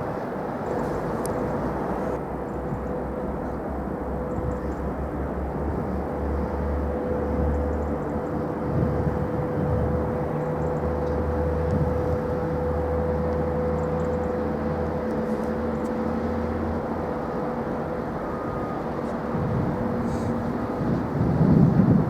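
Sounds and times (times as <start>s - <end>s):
constant hum: 0.0s - 22.0s
engine rumble: 0.0s - 22.0s.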